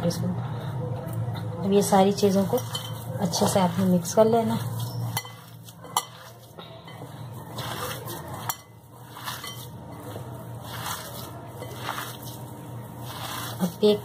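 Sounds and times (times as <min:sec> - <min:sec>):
hands kneading moist mixture: 0:01.8 - 0:14.0.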